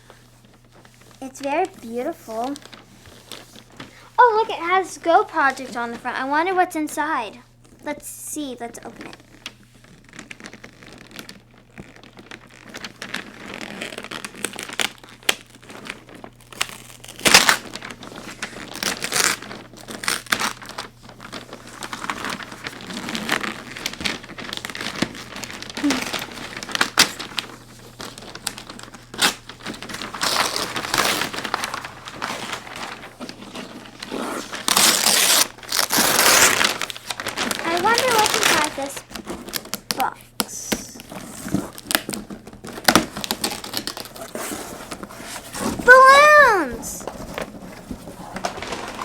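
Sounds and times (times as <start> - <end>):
paper and packaging crinkling: 0.0 - 6.8, 8.4 - 49.0.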